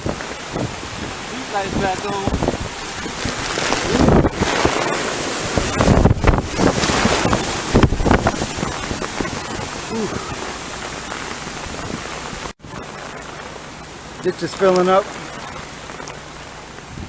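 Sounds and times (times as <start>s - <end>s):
strong wind gusting: 0.0s - 13.4s, 15.0s - 17.0s
wind buffeting the microphone: 0.0s - 13.6s, 15.1s - 17.0s.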